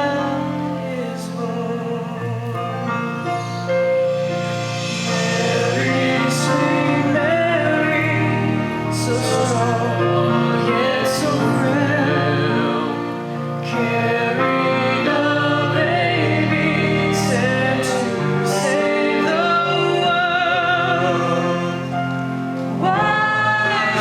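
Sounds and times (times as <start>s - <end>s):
held accompaniment: 0.0s - 24.0s
person singing with vibrato: 0.0s - 24.0s.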